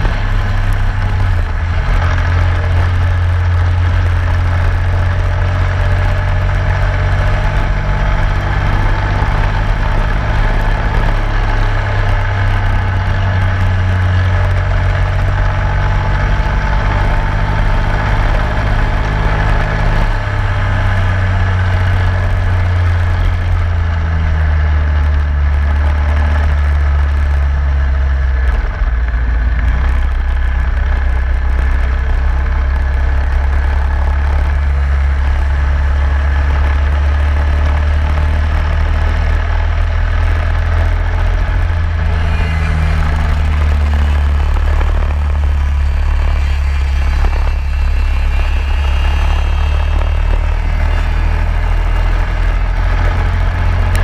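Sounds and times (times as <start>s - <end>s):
racing kart engine: 0.0s - 54.0s
steady rushing noise: 0.0s - 54.0s.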